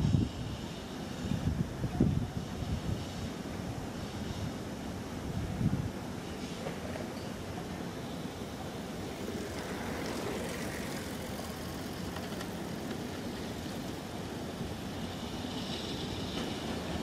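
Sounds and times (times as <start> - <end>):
faint rail noise: 0.0 - 17.0
train low rumble: 0.0 - 17.0.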